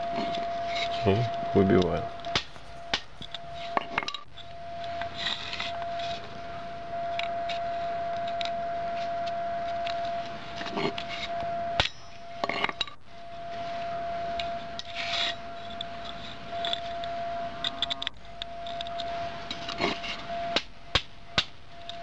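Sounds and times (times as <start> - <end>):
faint high tone hum: 0.0 - 22.0.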